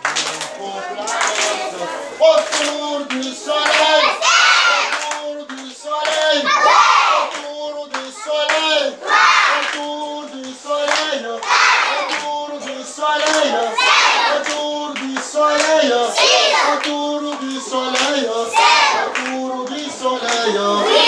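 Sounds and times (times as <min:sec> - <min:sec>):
hands clapping: 0:00.0 - 0:21.0
children singing together: 0:00.5 - 0:05.1, 0:05.8 - 0:21.0.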